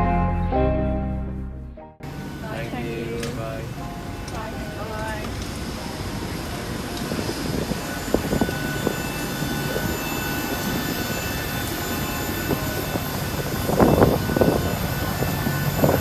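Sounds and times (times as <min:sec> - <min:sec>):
jet engines humming and whining: 0:02.0 - 0:16.0.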